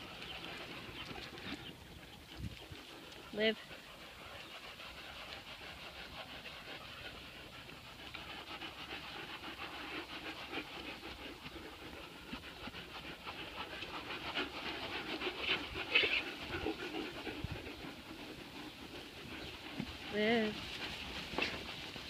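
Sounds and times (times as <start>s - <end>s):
dog panting quickly: 0.0s - 22.0s.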